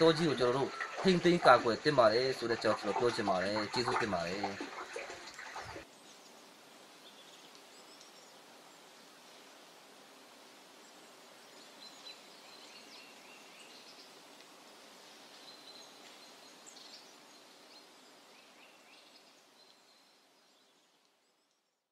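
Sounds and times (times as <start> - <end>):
steady hiss: 0.0 - 21.4.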